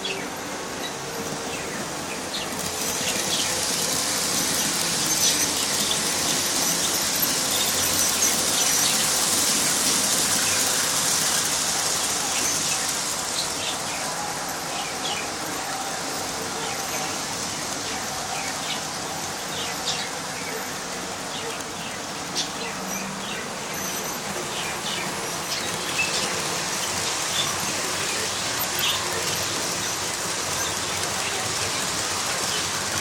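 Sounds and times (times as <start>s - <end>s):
miniature train hiss and wheel squeal: 0.0s - 33.0s
wheels clicking on track: 0.0s - 33.0s.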